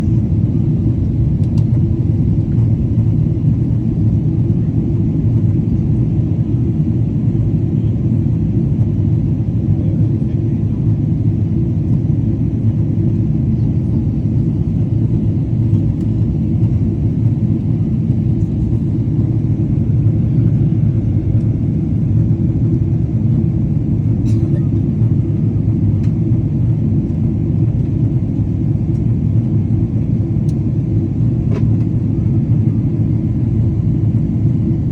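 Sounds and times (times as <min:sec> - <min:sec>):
airplane landing rumble: 0:00.0 - 0:34.9.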